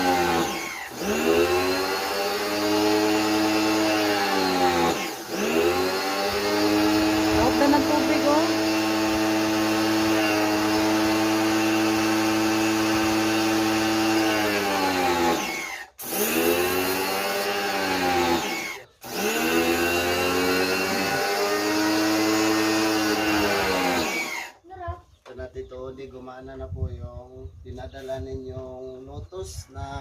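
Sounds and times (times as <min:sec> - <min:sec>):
pressure washer motor whine: 0:00.0 - 0:24.6.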